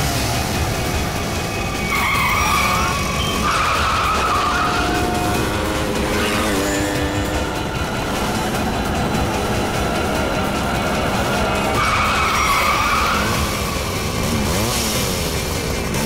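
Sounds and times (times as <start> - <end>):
motorcycle engines running: 0.0 - 16.0
tyres squealing: 1.0 - 15.1.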